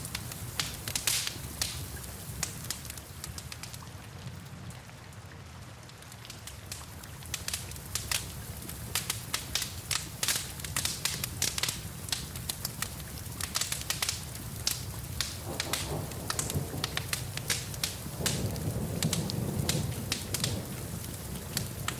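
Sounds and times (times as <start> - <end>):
wood fire crackling and popping: 0.0 - 4.8, 5.8 - 21.9
low rumble of flames: 0.0 - 5.6, 6.2 - 21.9.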